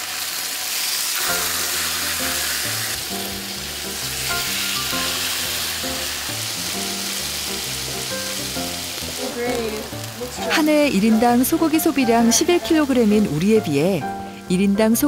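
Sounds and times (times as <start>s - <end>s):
steak sizzling: 0.0s - 15.0s
background music of held notes: 1.2s - 15.0s.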